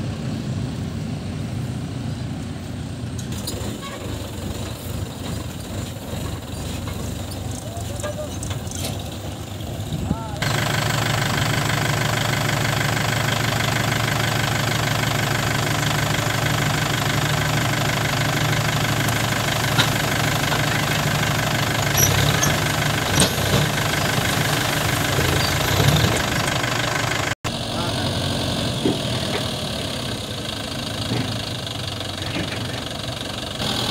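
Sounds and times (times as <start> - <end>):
diesel tractor engine running: 0.0 - 33.9.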